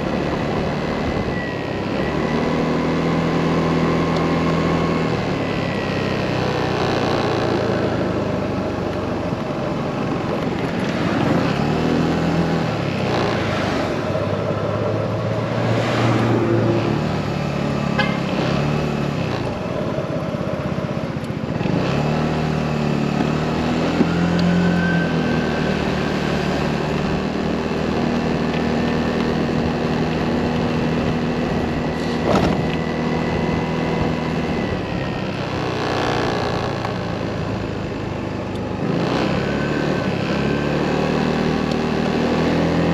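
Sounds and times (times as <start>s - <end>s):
motorcycle engine revving: 0.0s - 42.9s
road and wind noise: 0.0s - 42.9s.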